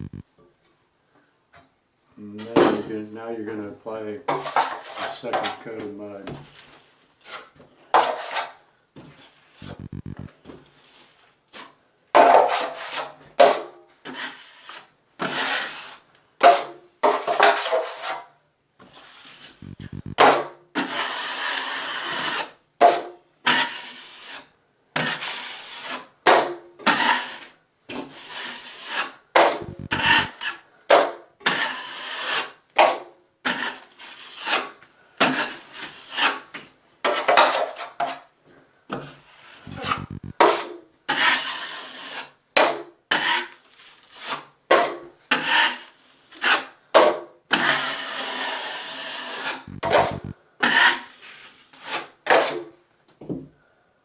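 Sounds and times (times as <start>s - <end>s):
drywall knife scraping compound: 4.3s - 9.8s, 10.8s - 19.6s, 20.2s - 38.3s, 38.9s - 52.8s.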